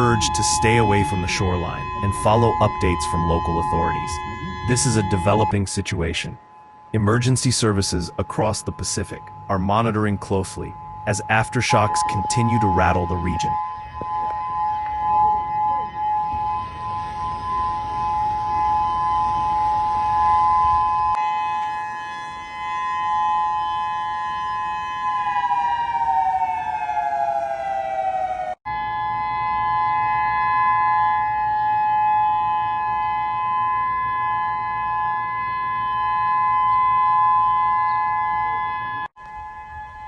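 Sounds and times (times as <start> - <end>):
warning siren wailing: 0.0 - 40.0.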